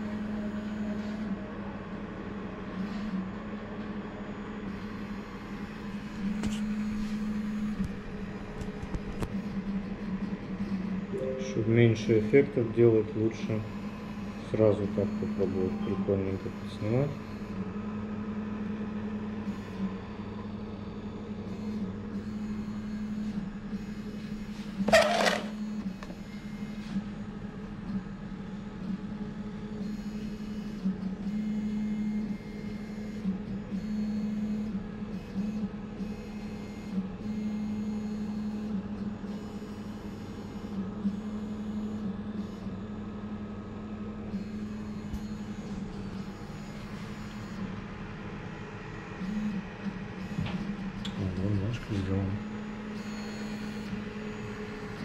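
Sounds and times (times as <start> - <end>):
printer stepper motors whining: 2.1 - 55.0.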